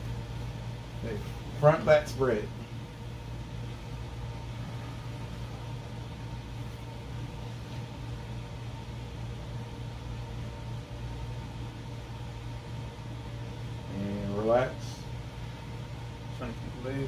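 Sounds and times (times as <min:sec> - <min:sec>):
air conditioner hum and rush: 0:00.0 - 0:17.0.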